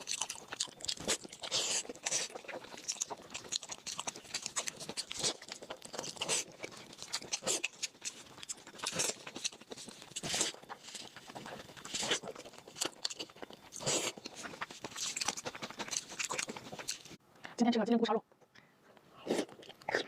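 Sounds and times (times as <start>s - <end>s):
person chewing and crunching food: 0.0s - 17.2s, 19.1s - 20.0s.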